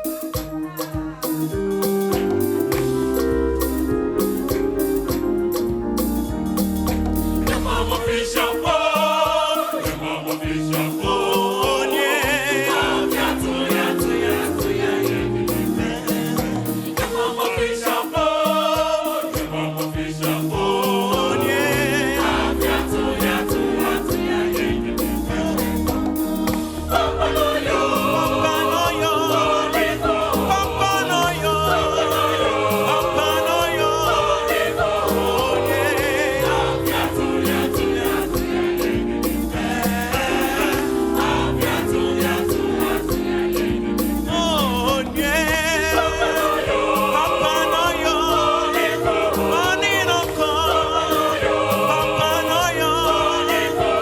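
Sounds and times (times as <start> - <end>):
choir singing gospel: 0.0 - 54.0
instrumental backing with bass: 0.0 - 54.0.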